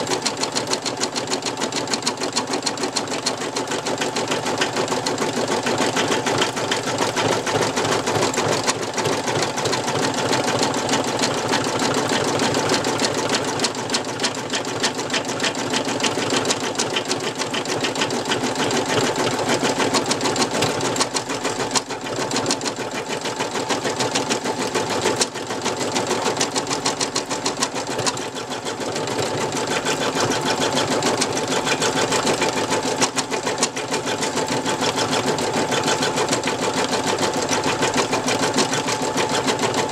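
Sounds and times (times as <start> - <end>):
embroidery machine needle clatter: 0.0 - 39.9.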